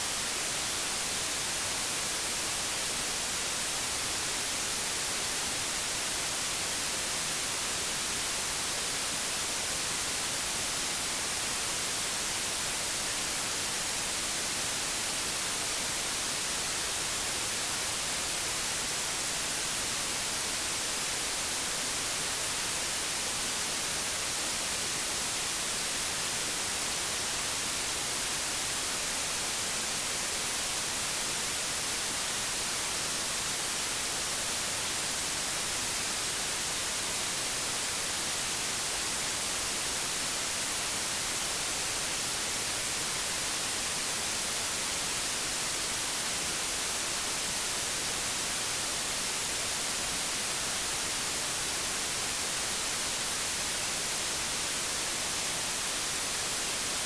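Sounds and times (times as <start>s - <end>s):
television static hiss: 0.0s - 57.0s.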